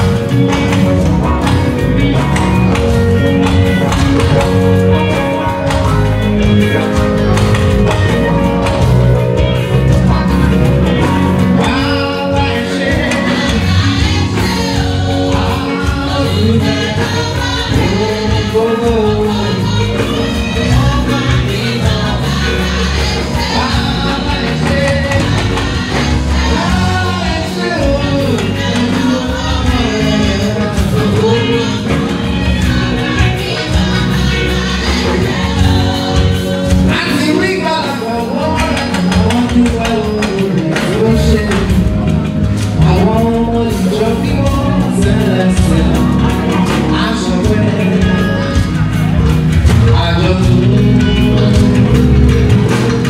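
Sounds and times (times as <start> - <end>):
choir singing gospel song: 0.0 - 53.0
solo voice singing: 0.0 - 53.0
steady bass accompaniment: 0.0 - 53.0.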